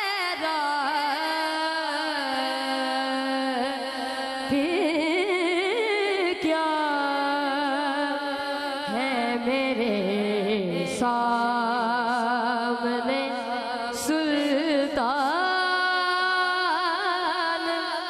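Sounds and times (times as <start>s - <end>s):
boy singing: 0.0s - 18.0s.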